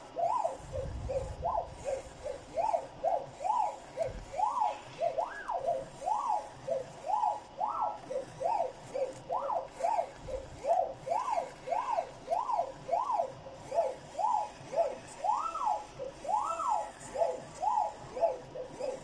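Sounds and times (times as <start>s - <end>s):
plotter motors whining: 0.0s - 19.0s.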